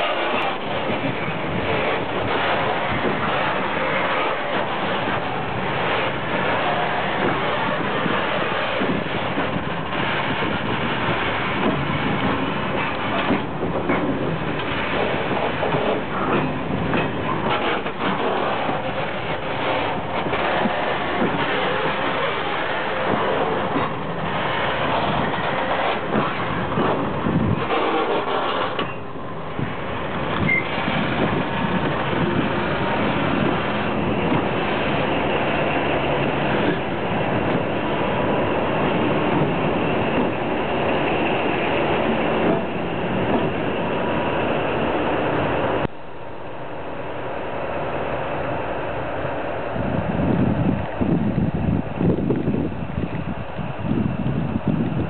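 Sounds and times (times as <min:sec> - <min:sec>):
train wheels clattering over rail joints: 0:00.0 - 0:45.9
diesel locomotive engines running: 0:00.0 - 0:55.0.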